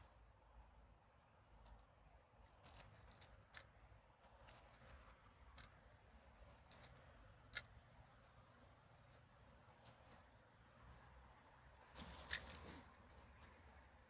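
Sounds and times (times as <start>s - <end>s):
faint clicks and rustles: 1.4s - 14.0s.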